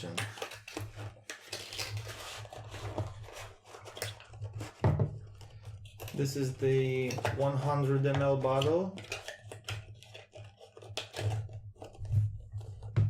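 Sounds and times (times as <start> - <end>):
packaging tearing: 0.0 - 12.1
packaging rustling: 0.0 - 13.0.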